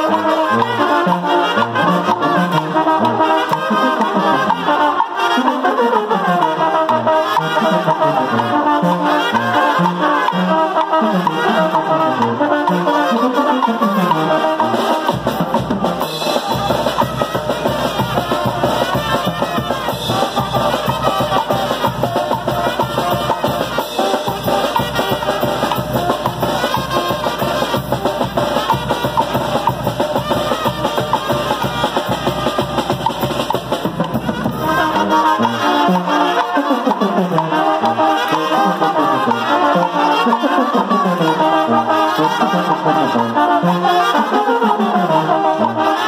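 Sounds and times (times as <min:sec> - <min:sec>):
brass band playing: 0:00.0 - 0:46.0.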